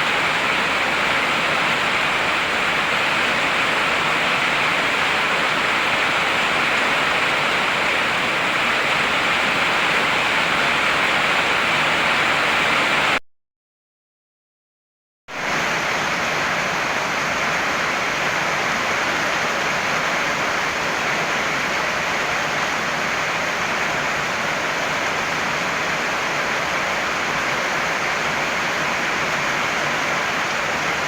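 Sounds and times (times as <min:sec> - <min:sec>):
heavy rain hissing: 0:00.0 - 0:13.2, 0:15.3 - 0:31.0.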